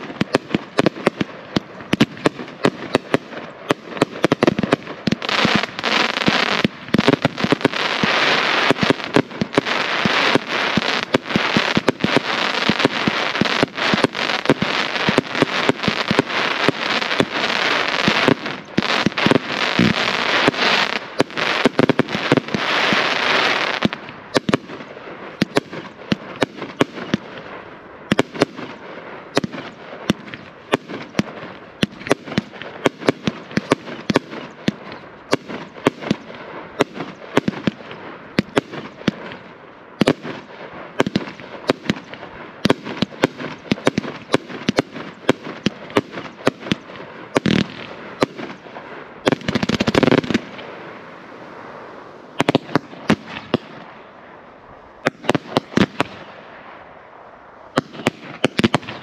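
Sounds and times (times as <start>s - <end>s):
firework cake firing: 0.0s - 39.4s, 40.0s - 54.1s.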